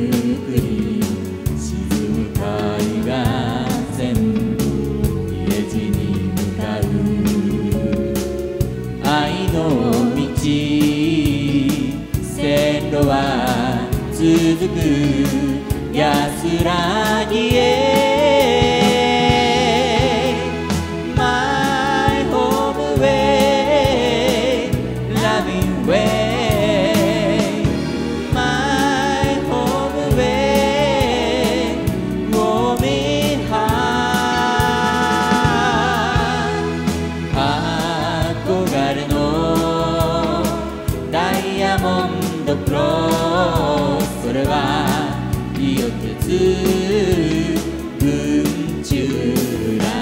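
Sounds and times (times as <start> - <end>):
male and female duo singing: 0.0 - 8.0, 9.0 - 50.0
backing track with steady beat: 0.0 - 50.0.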